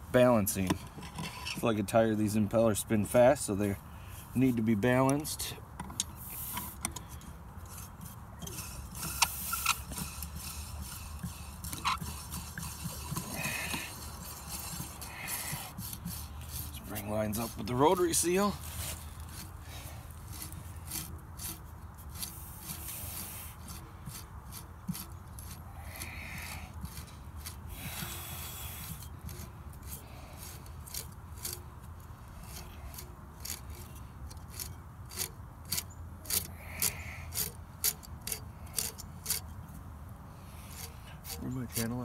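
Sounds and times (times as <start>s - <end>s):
metal parts rubbing and scraping: 0.2s - 39.8s, 40.4s - 42.0s.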